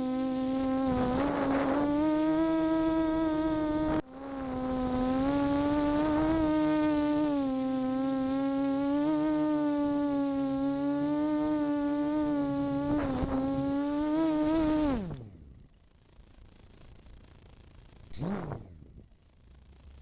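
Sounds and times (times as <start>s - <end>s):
drone motors buzzing: 0.0s - 20.0s.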